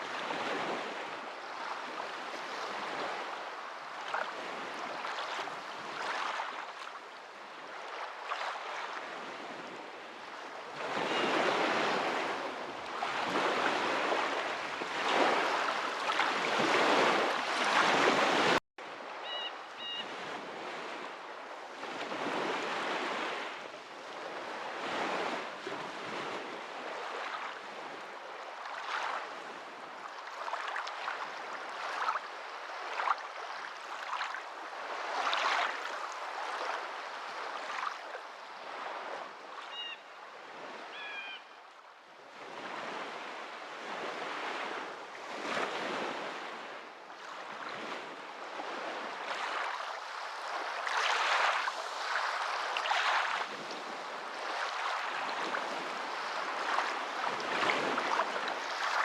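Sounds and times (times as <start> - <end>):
small waves on a shore: 0.0 - 59.0.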